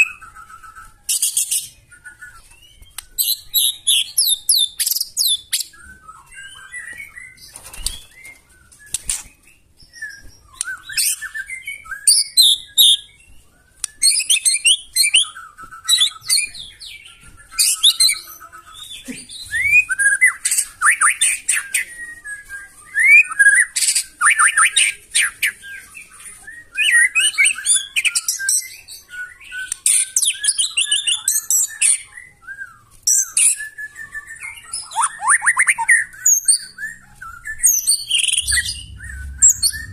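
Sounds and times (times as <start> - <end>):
bird singing whistles and rattles: 0.0 - 18.5, 19.4 - 39.9.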